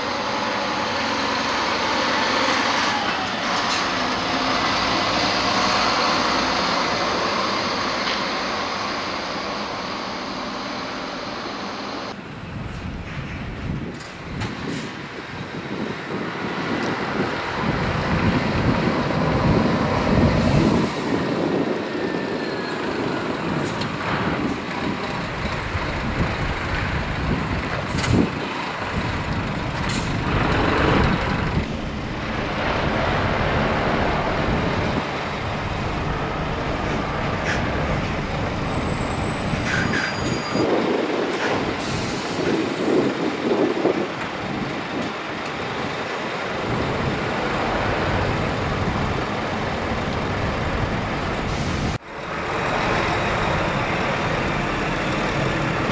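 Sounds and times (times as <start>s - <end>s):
truck engine and road noise: 0.0s - 55.9s.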